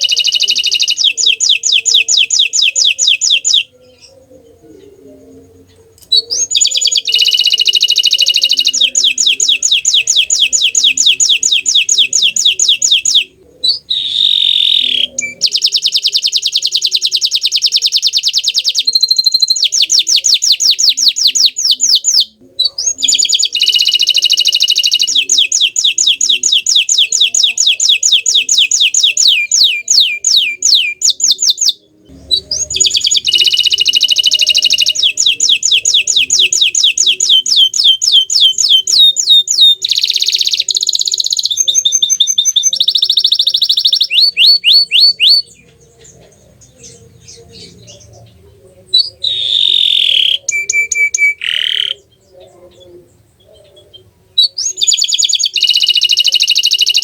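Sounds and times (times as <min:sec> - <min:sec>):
canary singing rolling trills: 0:00.0 - 0:57.0.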